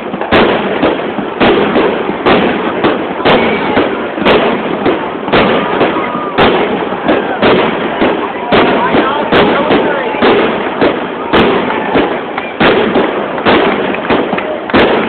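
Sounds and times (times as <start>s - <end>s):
dense small firework bursts: 0.0s - 15.0s
loud firework shell bursts: 0.0s - 15.0s.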